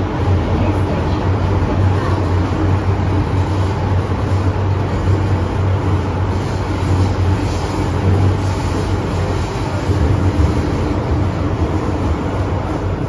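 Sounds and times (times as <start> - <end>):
constant low hum: 0.0 - 13.0
train wheels rumbling: 0.0 - 13.0.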